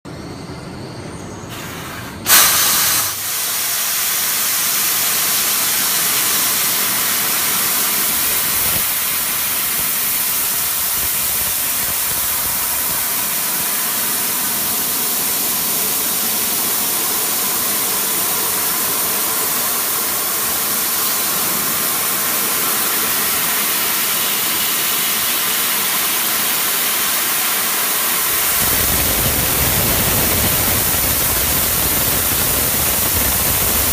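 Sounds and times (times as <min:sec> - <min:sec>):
gas jet hissing: 0:01.5 - 0:33.9.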